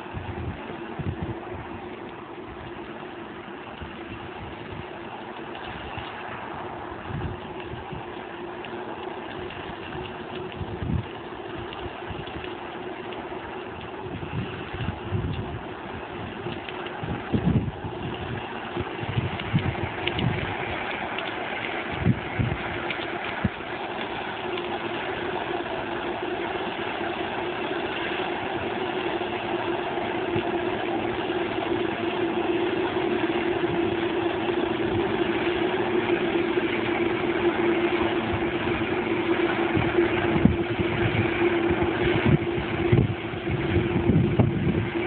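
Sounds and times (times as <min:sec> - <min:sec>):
combine harvester droning: 0:00.0 - 0:45.0.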